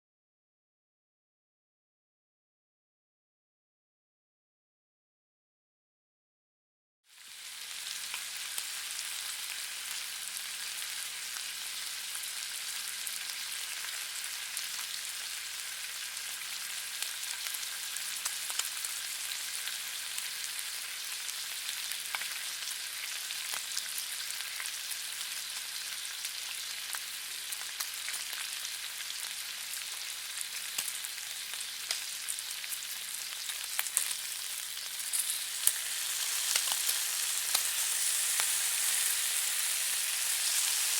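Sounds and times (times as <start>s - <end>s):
bacon sizzling in a frying pan: 7.1s - 40.9s.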